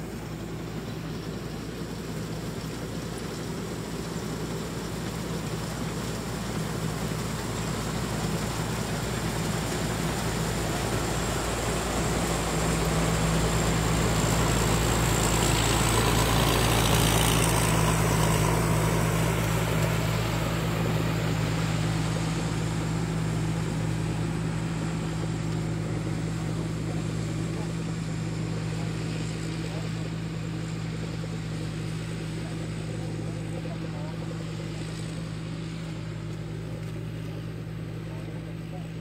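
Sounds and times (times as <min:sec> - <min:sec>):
harvester engine droning: 0:00.0 - 0:39.0.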